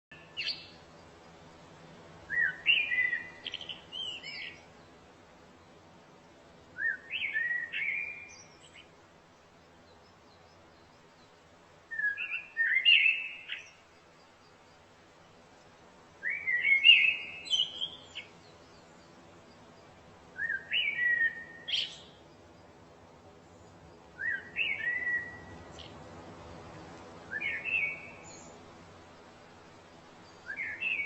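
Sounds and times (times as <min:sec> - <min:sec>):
faint steady background: 0:00.1 - 0:31.0
songbird singing: 0:00.1 - 0:31.0.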